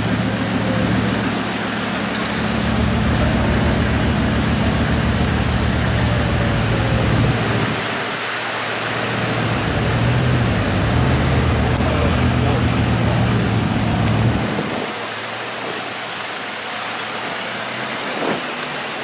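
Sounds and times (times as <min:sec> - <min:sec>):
car engine idling: 0:00.0 - 0:19.0
street traffic: 0:00.0 - 0:19.0
wind: 0:00.0 - 0:19.0.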